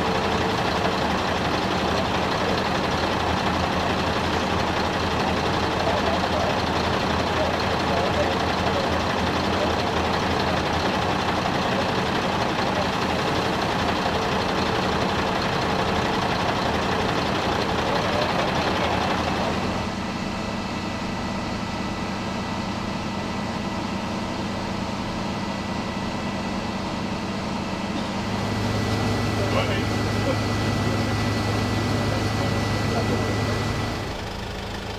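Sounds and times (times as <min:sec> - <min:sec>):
fire engine engine running: 0:00.0 - 0:34.9.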